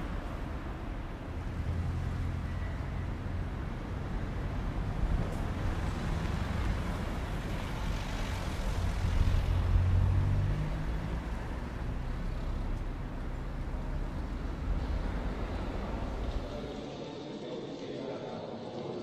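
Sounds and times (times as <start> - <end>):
low engine hum: 0.0 - 16.6
road traffic: 0.0 - 17.1.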